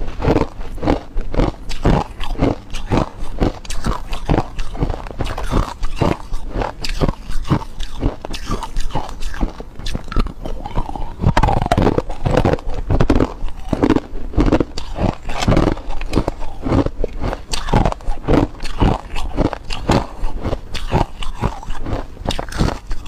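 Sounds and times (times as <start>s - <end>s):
ice cubes crunching: 0.0s - 23.0s.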